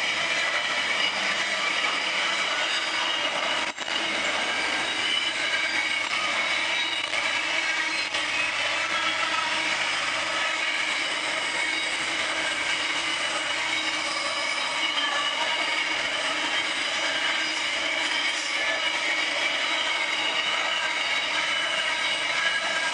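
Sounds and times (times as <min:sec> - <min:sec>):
rumble of train wagons: 0:00.0 - 0:22.9
steel wheel flange squeal: 0:00.0 - 0:22.9.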